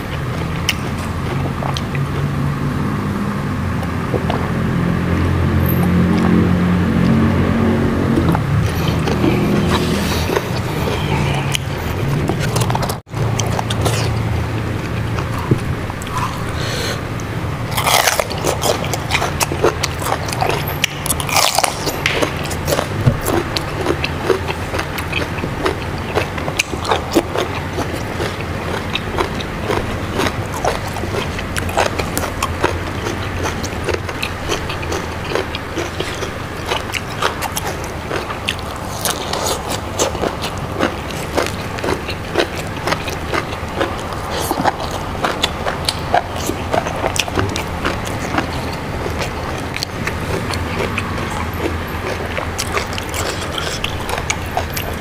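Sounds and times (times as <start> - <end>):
chewing and crunching: 0.0 - 3.2, 3.8 - 55.0
low steady hum: 0.0 - 55.0.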